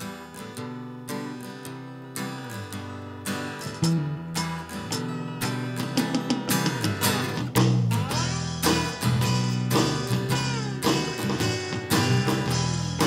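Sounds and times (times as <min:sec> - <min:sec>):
second guitar: 0:00.0 - 0:13.0
slide guitar: 0:00.0 - 0:13.0
bass guitar: 0:02.0 - 0:13.0.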